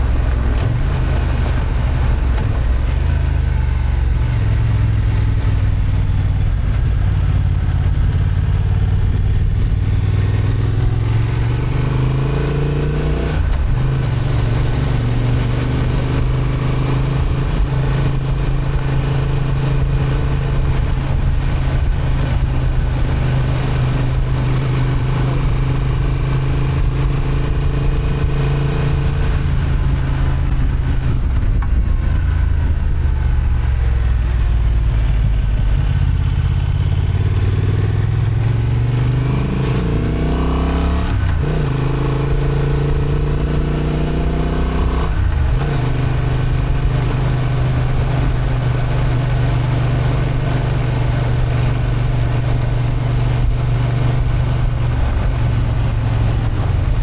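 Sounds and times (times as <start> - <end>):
motorcycle engine pulling uphill: 0.0 - 57.0.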